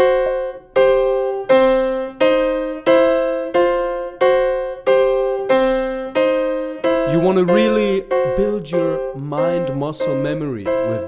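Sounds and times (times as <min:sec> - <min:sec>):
piano playing blues riff: 0:00.0 - 0:11.0.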